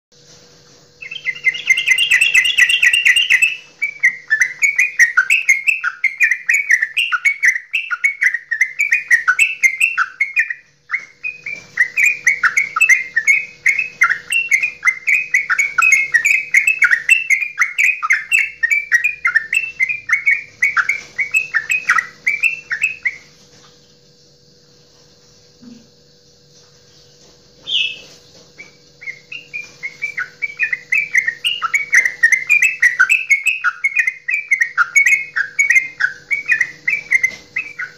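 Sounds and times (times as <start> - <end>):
bird singing chattering song: 1.0 - 23.4, 27.6 - 37.9.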